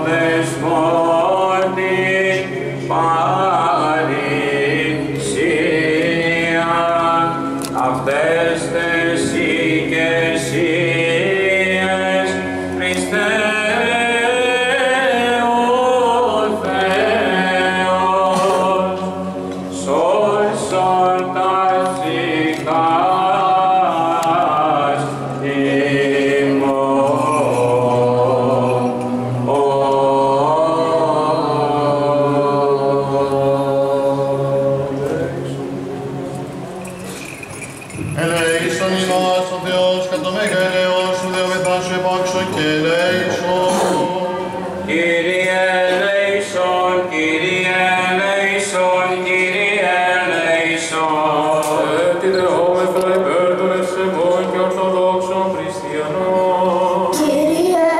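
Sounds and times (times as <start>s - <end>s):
men chanting melody: 0.0s - 36.2s, 36.8s - 57.4s.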